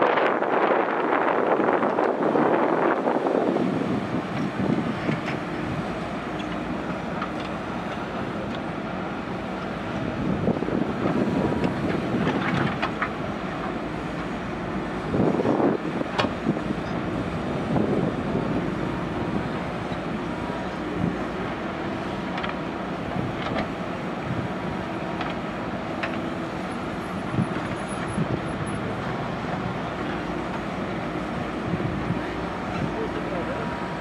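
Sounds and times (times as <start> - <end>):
backhoe diesel engine running: 0.1 - 34.0.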